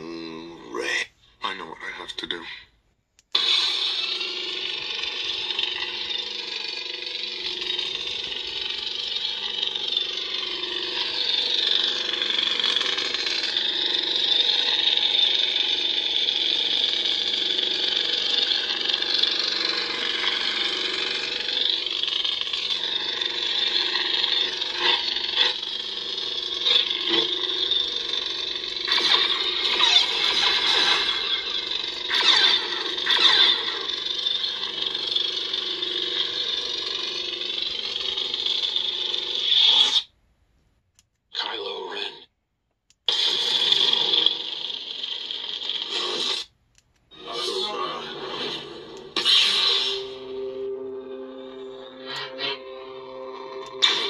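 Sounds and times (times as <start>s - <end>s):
lightsaber humming: 0.0s - 1.1s, 3.3s - 40.1s, 47.1s - 54.0s.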